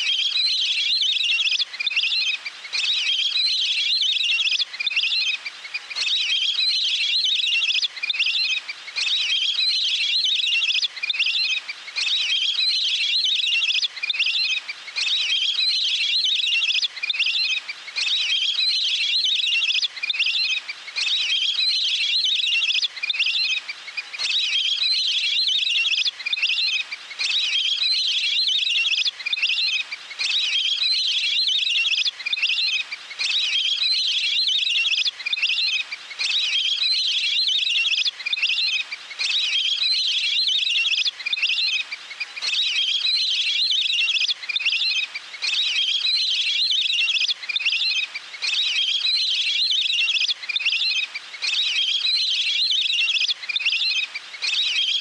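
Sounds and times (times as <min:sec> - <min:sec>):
ducks chirping whistles: 0:00.0 - 0:55.0.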